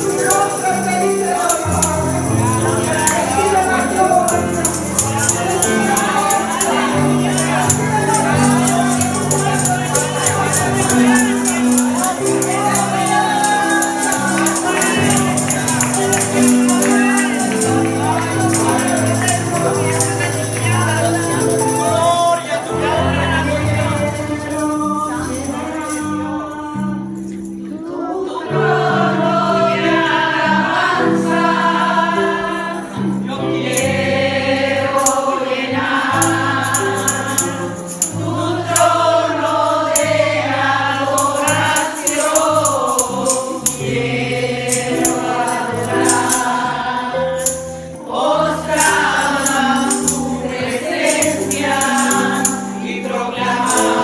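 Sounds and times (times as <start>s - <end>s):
tambourine shaking: 0.0s - 27.8s, 32.4s - 54.0s
group singing gospel song: 0.0s - 54.0s.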